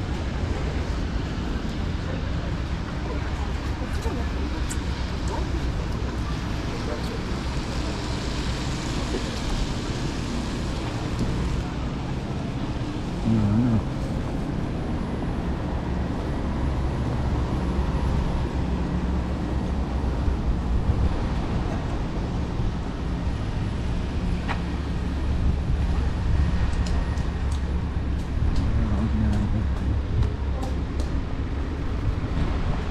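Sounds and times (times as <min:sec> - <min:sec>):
passers-by's voices: 0:00.0 - 0:32.9
traffic on wet roads: 0:00.0 - 0:32.9.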